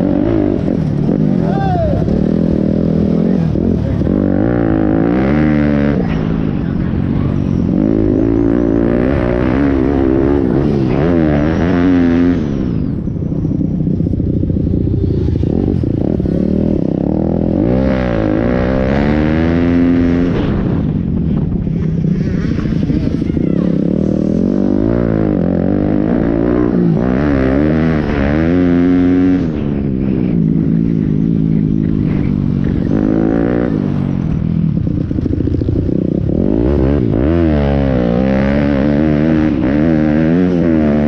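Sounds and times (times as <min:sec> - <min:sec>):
pit bike engines revving: 0:00.0 - 0:41.0.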